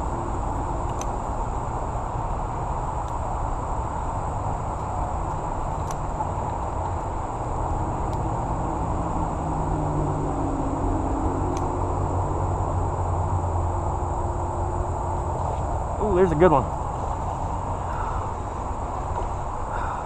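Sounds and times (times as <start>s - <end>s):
heavy vehicle drone: 0.0s - 20.0s
high insect buzz: 0.0s - 20.0s
traffic rumble: 0.0s - 20.0s.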